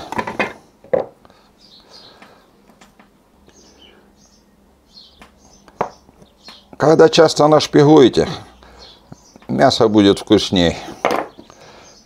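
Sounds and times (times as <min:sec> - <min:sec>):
small birds chirping: 0:01.2 - 0:12.0.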